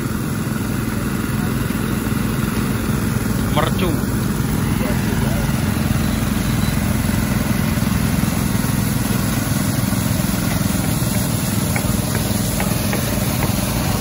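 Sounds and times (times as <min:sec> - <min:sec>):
water gushing: 0:00.0 - 0:14.0
water pump engines running: 0:00.0 - 0:14.0.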